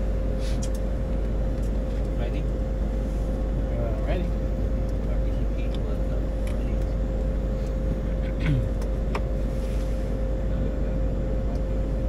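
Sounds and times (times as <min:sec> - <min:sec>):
jet cockpit rumble: 0:00.0 - 0:12.0
steady engine hum: 0:00.0 - 0:12.0.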